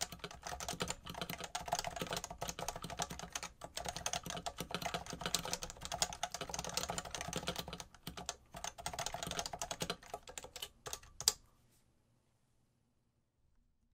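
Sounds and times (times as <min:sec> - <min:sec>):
fast typing on keyboard: 0:00.0 - 0:11.4.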